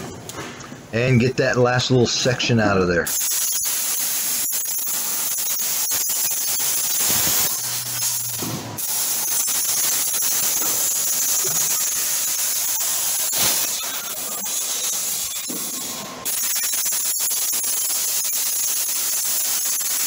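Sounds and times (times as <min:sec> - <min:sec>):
plasma cutter hissing: 0:03.1 - 0:20.0.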